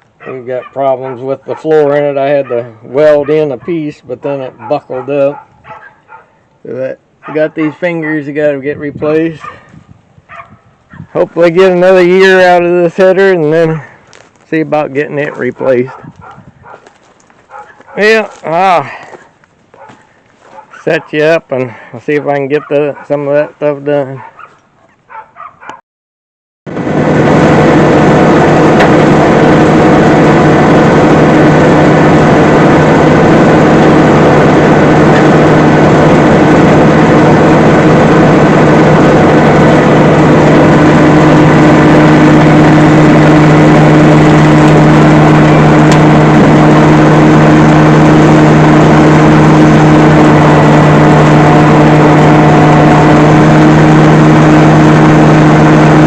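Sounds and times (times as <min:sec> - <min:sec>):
engine running steadily: 0:00.0 - 0:24.4, 0:26.7 - 0:56.0.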